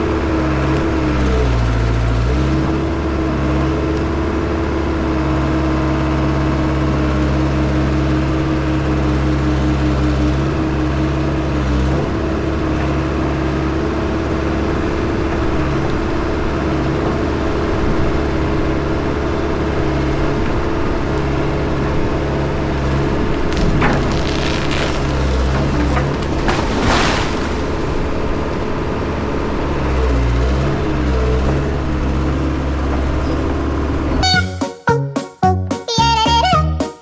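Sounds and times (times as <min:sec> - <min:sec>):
engine running: 0:00.0 - 0:34.3.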